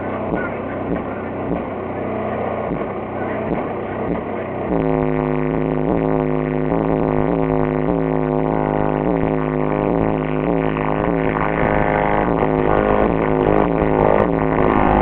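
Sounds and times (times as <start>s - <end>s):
bass-heavy music from car stereo: 0.0s - 15.0s.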